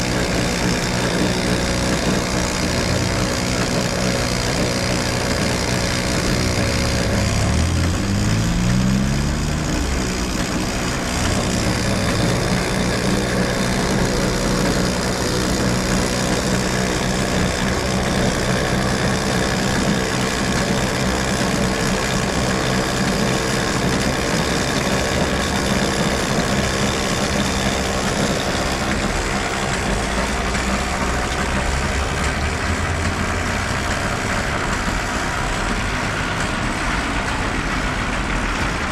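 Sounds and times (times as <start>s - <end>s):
cotton candy machine whirring hum: 0.0s - 38.9s.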